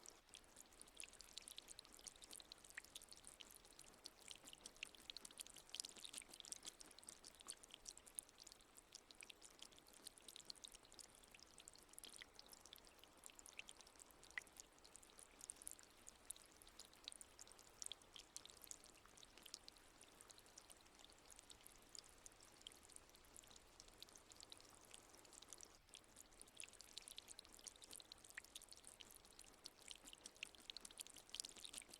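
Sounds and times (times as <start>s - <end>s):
soft trickling water: 0.0s - 31.9s.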